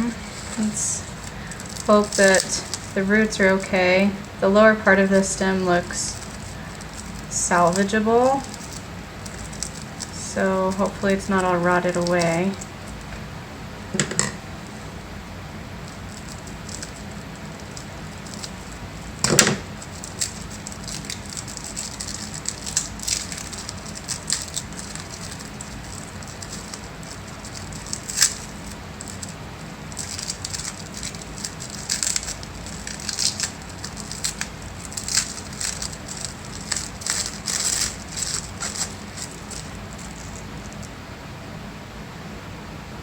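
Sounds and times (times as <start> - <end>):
packaging crinkling: 0.0 - 13.2, 14.0 - 41.0.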